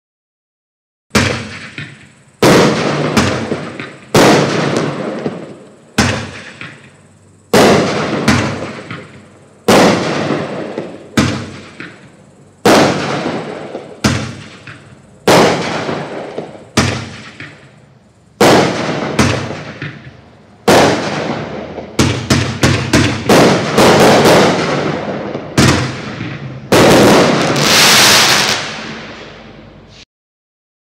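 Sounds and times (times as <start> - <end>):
fireworks bangs: 1.1 - 30.0.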